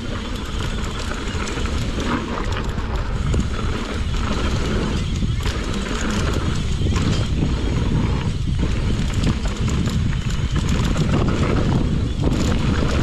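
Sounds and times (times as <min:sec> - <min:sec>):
bike rattling over bumps: 0:00.0 - 0:13.0
tyres rumbling on dirt: 0:00.0 - 0:13.0.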